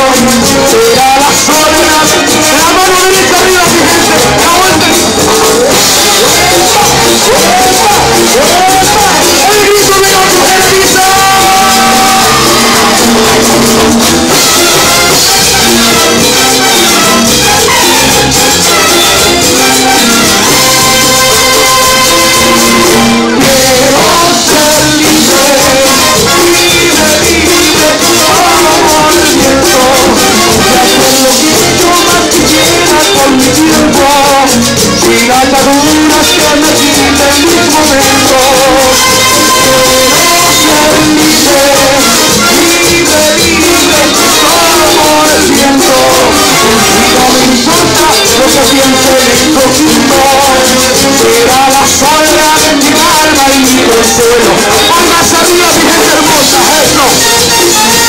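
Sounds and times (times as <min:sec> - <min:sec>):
brass band playing: 0:00.0 - 0:58.0
drum kit: 0:00.0 - 0:58.0
horns holding long chords: 0:00.0 - 0:58.0
rattling percussion: 0:00.0 - 0:58.0.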